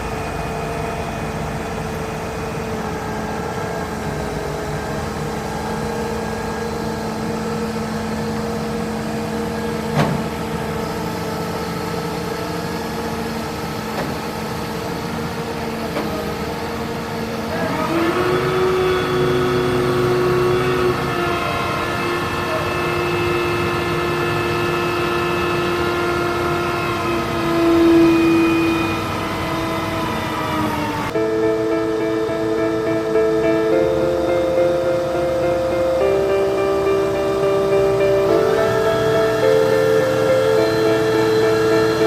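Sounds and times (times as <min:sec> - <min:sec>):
heavy engine running and revving: 0:00.0 - 0:42.0.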